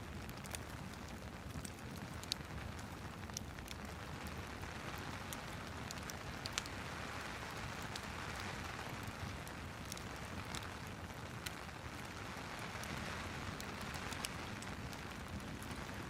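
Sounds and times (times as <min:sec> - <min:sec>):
rain hiss: 0:00.0 - 0:16.0
wood fire crackling: 0:00.0 - 0:16.0.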